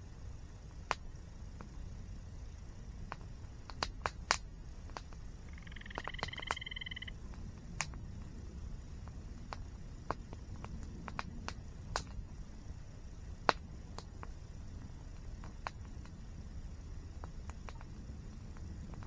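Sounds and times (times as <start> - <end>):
campfire crackling and popping: 0.2 - 19.0.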